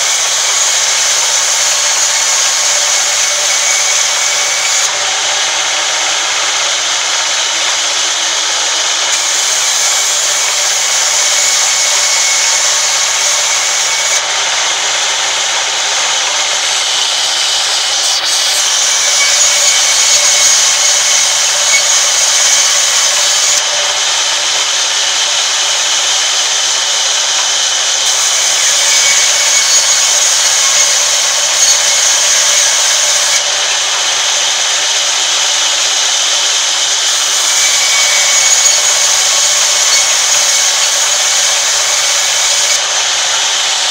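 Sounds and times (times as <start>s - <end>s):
band saw cutting wood: 0.0s - 43.9s.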